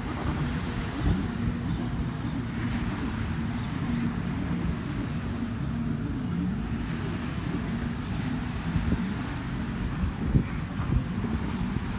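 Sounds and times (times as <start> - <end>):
distant watercraft engine droning: 0.0 - 11.9
surf washing on beach: 0.0 - 11.9
wind buffeting microphone: 0.0 - 11.9.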